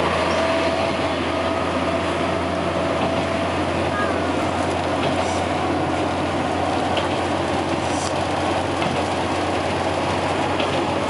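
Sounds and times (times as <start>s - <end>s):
railcar engine hum: 0.0s - 11.0s
wheel and rail noise: 0.0s - 11.0s.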